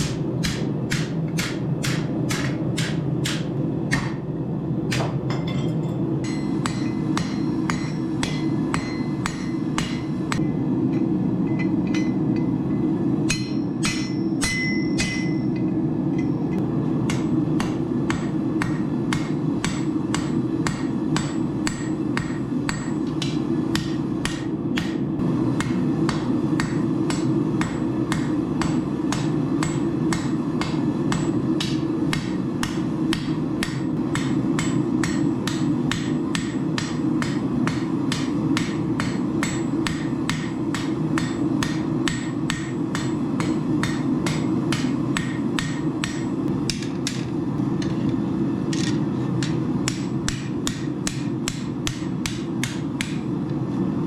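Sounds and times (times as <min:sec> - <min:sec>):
hammer striking steel on anvil: 0:00.0 - 0:04.3, 0:04.9 - 0:48.0, 0:48.8 - 0:53.4.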